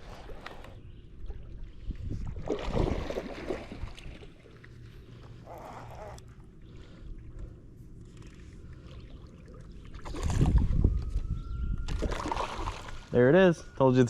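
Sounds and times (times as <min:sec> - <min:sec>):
water splashing around kayak: 0:00.0 - 0:11.2, 0:11.9 - 0:13.2.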